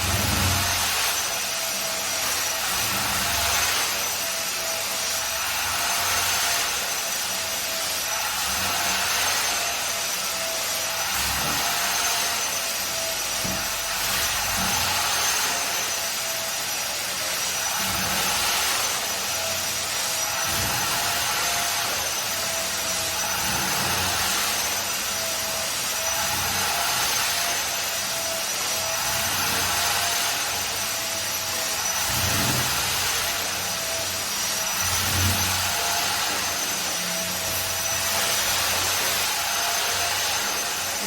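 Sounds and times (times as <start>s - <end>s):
carpet cleaner motor whine: 0.0s - 41.0s.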